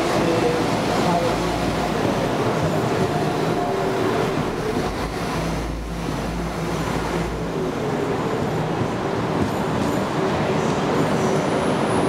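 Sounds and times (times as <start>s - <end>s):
diesel train engine running: 0.0s - 12.0s
low rumble of train wheels: 0.0s - 12.0s.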